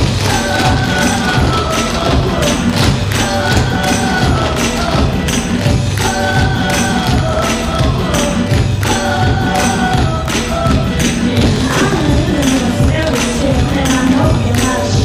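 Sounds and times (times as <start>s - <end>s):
song with steady beat: 0.0s - 15.0s
tap shoes clicking on stage: 0.0s - 15.0s.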